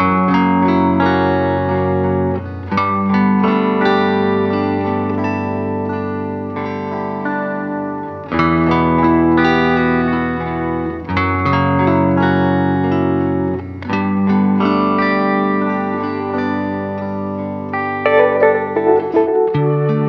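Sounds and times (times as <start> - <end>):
guitar background music: 0.0 - 20.0.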